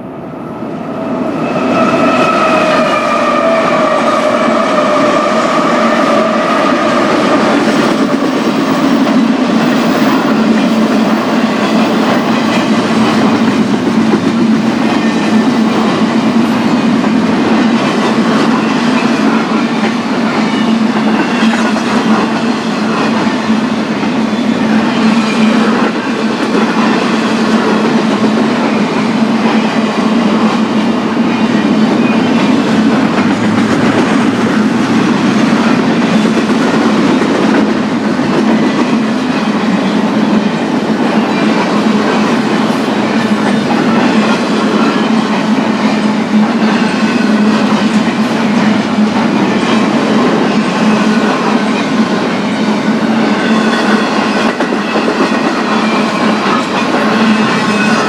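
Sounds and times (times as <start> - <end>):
train rumble: 0.0 - 58.0
train wheels clacking over rail joints: 2.0 - 58.0.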